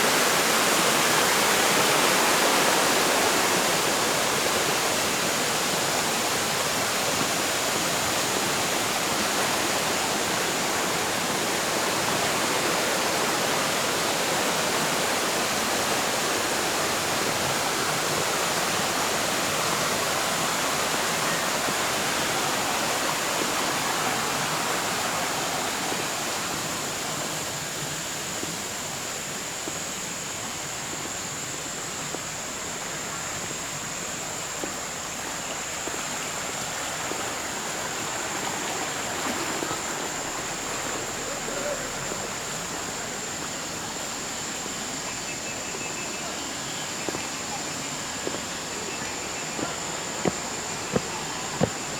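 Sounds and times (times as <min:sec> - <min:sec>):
stream water rushing over rocks: 0:00.0 - 0:51.9.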